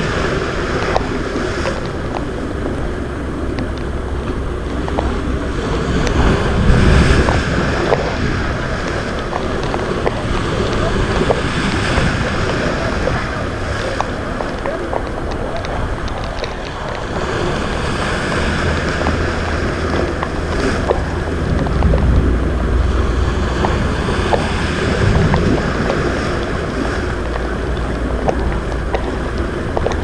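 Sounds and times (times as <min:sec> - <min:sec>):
waves washing in: 0:00.0 - 0:30.0
wind buffeting microphone: 0:00.0 - 0:30.0.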